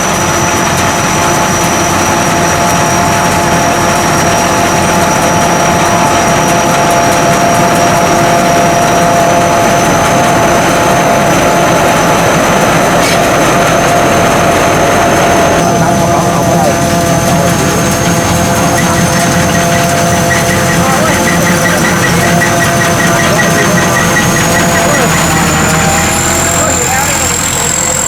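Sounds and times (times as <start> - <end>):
combine harvester running: 0.0 - 28.0
high mechanical whine: 0.0 - 28.0.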